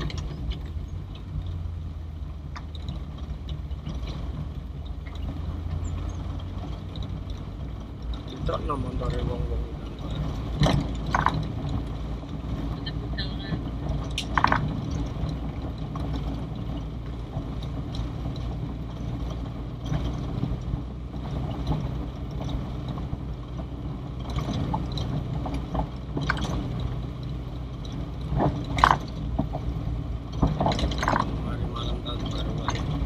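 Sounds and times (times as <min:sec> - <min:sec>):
car engine low hum: 0:00.0 - 0:33.0
car knocks and rattles: 0:00.0 - 0:33.0.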